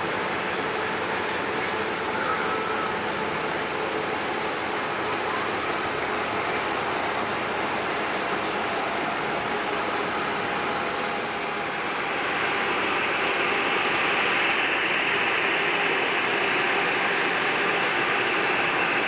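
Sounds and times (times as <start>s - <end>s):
jet engines of airliners: 0.0s - 19.0s.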